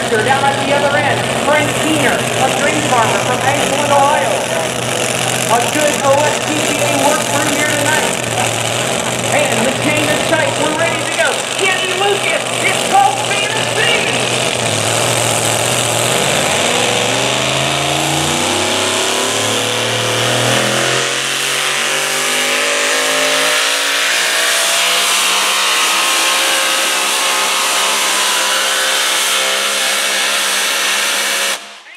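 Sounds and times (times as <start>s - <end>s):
pulling truck engine at full throttle: 0.0s - 31.9s.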